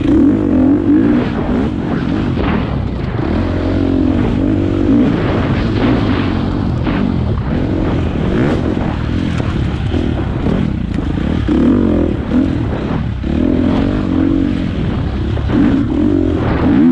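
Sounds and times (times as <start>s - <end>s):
dirt bike engine revving: 0.0s - 16.9s.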